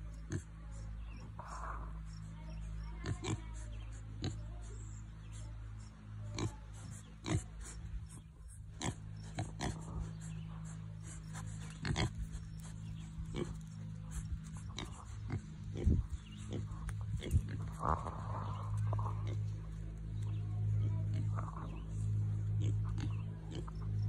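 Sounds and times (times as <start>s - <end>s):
piglets grunting: 0.0s - 24.0s
steady low hum: 0.0s - 24.0s.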